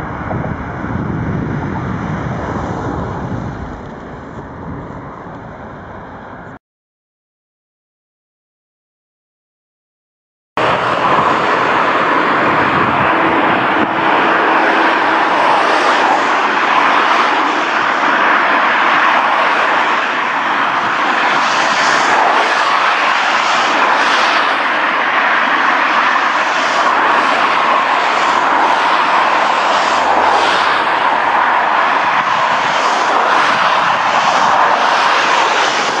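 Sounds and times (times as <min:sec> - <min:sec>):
diesel locomotive engine drone: 0:00.0 - 0:06.6, 0:10.6 - 0:36.0.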